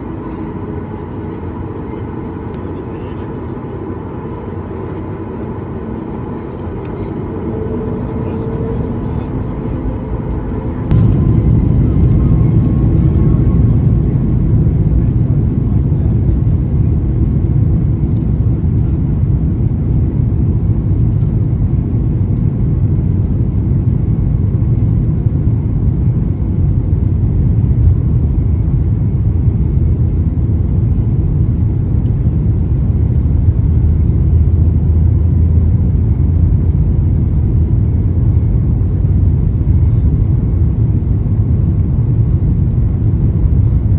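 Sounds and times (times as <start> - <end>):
jet engines rumbling: 0.0 - 43.9.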